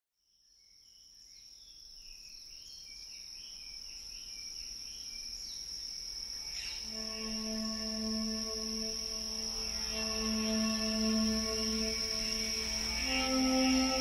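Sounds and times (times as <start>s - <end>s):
high-pitched insect trill: 2.2s - 14.0s.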